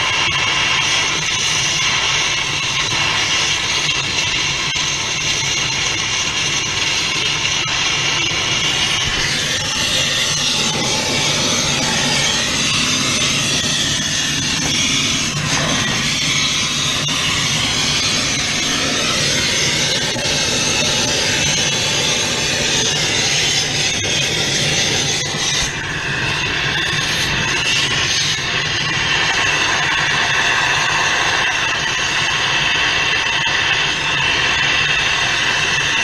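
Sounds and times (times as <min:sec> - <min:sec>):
gas torch flame burning: 0:00.0 - 0:36.0.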